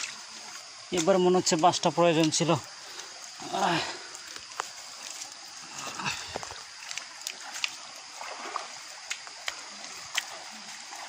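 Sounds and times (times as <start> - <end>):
barefoot steps on wet mud: 0.0 - 11.0
stream water running over rocks: 0.0 - 11.0.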